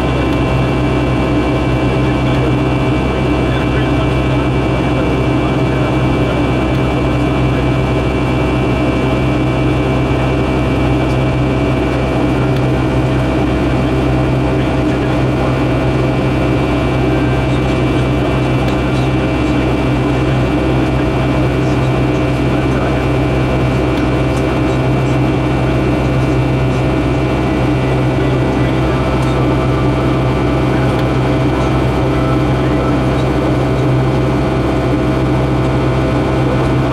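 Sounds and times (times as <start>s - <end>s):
jet engine drone in cabin: 0.0s - 36.9s.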